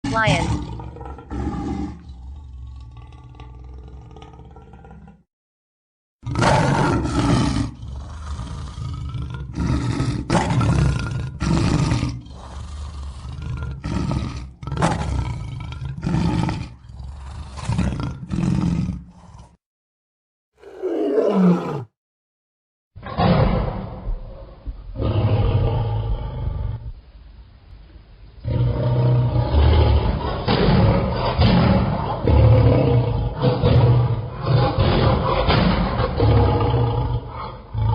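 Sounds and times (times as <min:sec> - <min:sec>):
lion roaring: 0:00.0 - 0:05.2, 0:06.2 - 0:19.6, 0:20.6 - 0:22.0, 0:23.0 - 0:26.9, 0:28.4 - 0:37.9.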